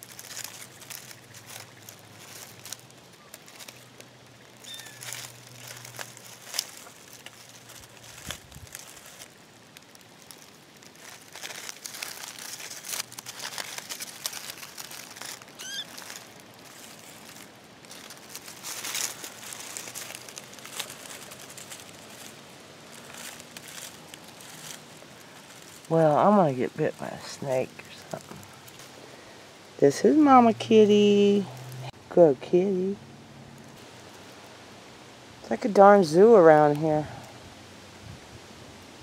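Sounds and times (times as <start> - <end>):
dry leaves rustling and crackling: 0.0 - 39.0.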